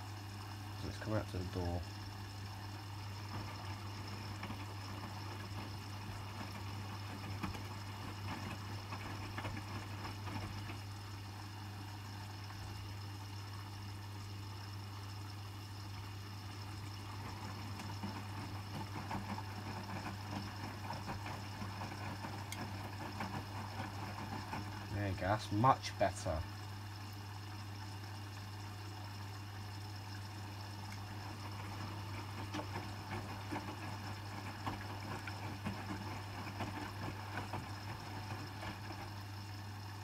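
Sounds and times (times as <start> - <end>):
water running into washing machine: 0.0 - 40.0.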